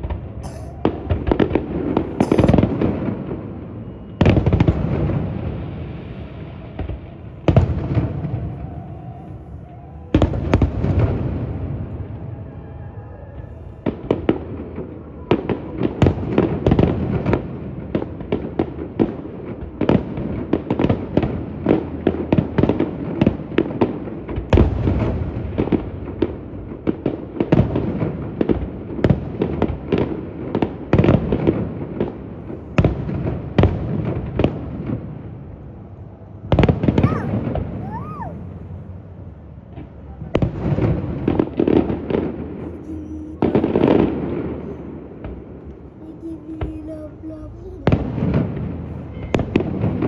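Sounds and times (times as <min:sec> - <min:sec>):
fireworks bangs and crackles: 0:00.0 - 0:12.4, 0:13.8 - 0:35.6, 0:39.6 - 0:50.0.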